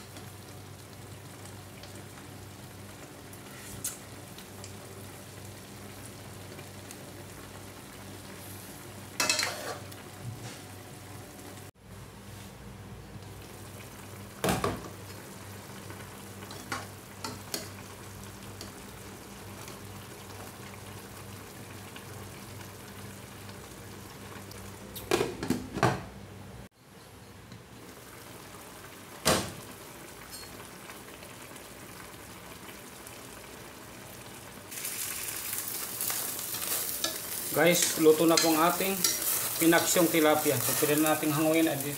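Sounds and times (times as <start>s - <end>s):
pot simmering: 0.0s - 12.3s, 13.1s - 25.0s, 26.8s - 41.9s
liquid bubbling and sizzling: 0.0s - 25.5s, 26.6s - 41.9s.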